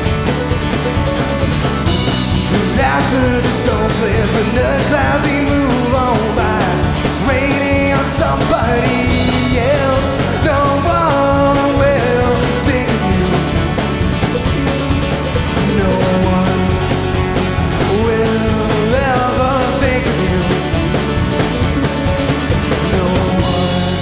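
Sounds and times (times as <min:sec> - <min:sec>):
acoustic guitar: 0:00.0 - 0:24.0
electric bass: 0:00.0 - 0:24.0
mandolin: 0:00.0 - 0:24.0.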